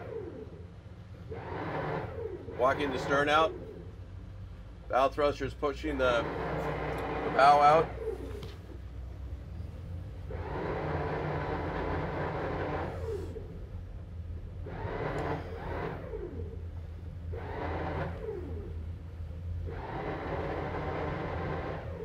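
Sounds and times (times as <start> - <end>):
bow thruster whirring: 0.0 - 4.1, 5.9 - 9.0, 9.6 - 13.8, 14.4 - 22.0
outboard engines humming: 0.0 - 22.0.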